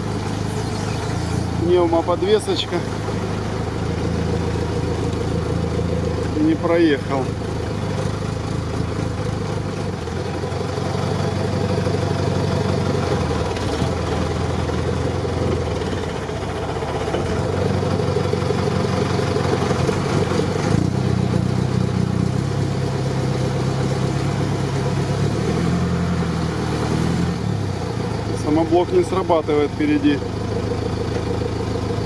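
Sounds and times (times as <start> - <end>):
truck engine under load: 0.0 - 32.0.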